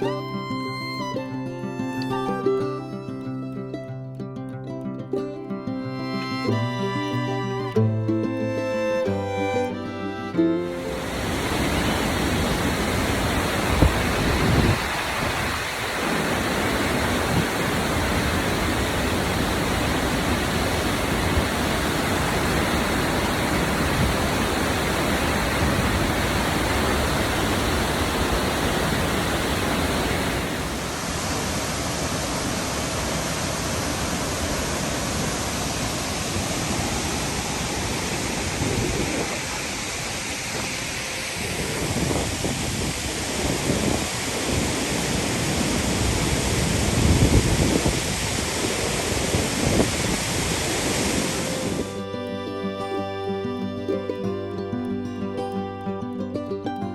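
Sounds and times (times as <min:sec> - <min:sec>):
waterfall rushing: 0:00.0 - 0:03.8, 0:05.9 - 0:56.2.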